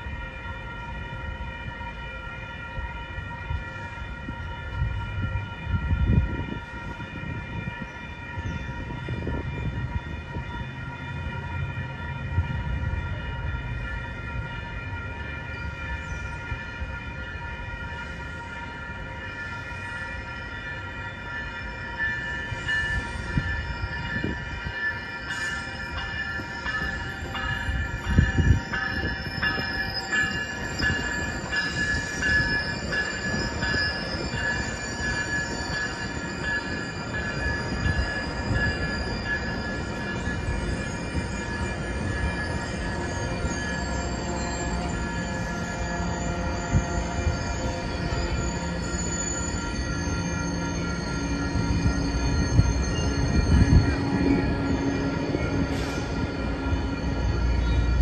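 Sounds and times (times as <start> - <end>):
crossing signal bells ringing: 0.0 - 58.0
diesel locomotive passing: 0.0 - 58.0
train wheels rumbling on rails: 0.0 - 58.0.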